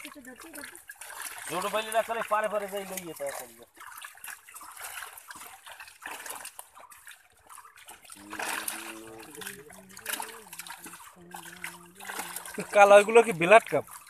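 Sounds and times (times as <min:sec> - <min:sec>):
muddy water splashing: 0:00.0 - 0:14.0.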